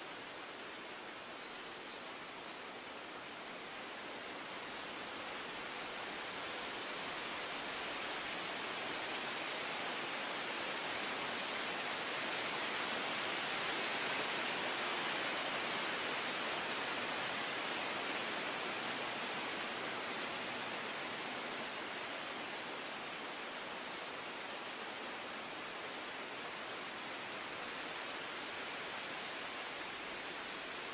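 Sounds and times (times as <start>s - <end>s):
rushing nature ambience: 0.0s - 30.9s.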